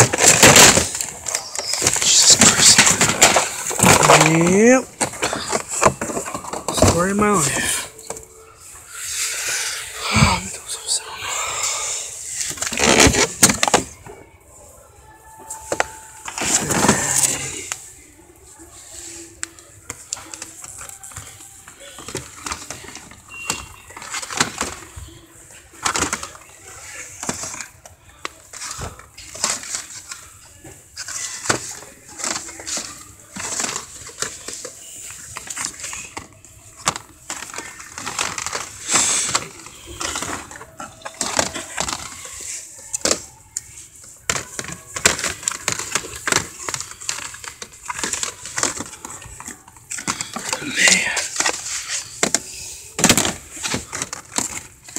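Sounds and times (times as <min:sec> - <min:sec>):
plastic packaging clacking and rustling: 0:00.0 - 0:09.0, 0:12.2 - 0:14.3, 0:15.4 - 0:54.9.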